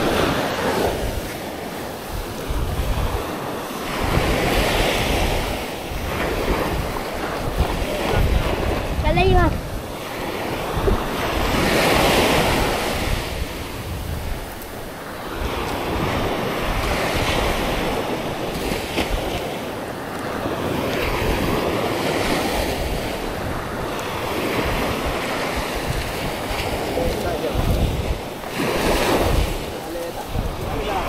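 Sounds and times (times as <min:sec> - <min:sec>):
surf breaking on a beach: 0:00.0 - 0:31.0
wind buffeting the microphone: 0:00.0 - 0:31.0.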